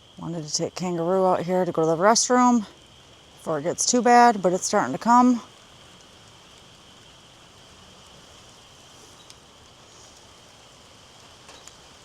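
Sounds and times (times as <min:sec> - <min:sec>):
light rain hiss: 0:00.0 - 0:12.0.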